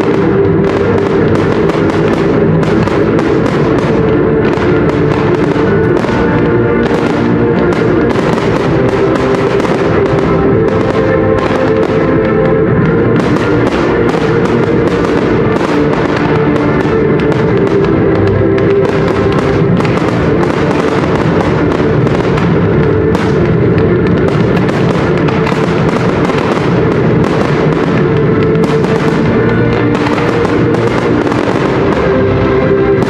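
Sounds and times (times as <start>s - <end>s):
fireworks bursting and crackling: 0.0s - 33.0s
loud music: 0.0s - 33.0s.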